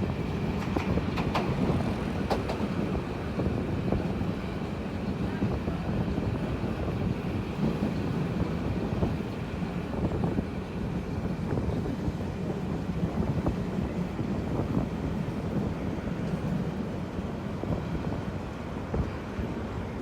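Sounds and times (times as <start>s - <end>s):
train rumbling: 0.0s - 20.0s
wind buffeting microphone: 0.0s - 20.0s.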